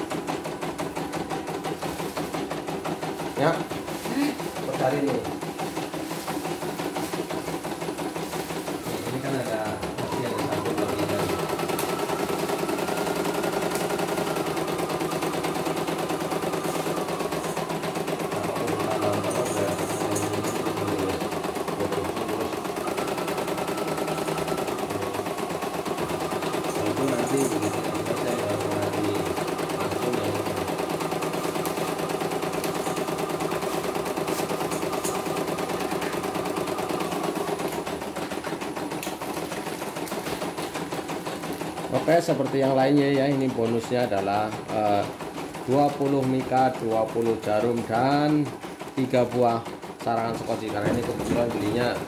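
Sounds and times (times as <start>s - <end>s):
embroidery machine needle rattle: 0.0s - 52.0s
motor hum: 0.0s - 52.0s.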